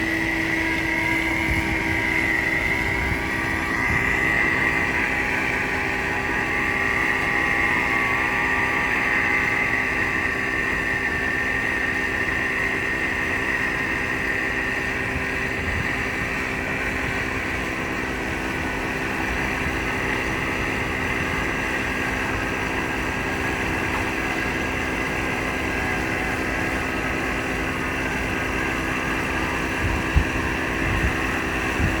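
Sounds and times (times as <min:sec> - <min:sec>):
engine running steadily: 0:00.0 - 0:32.0.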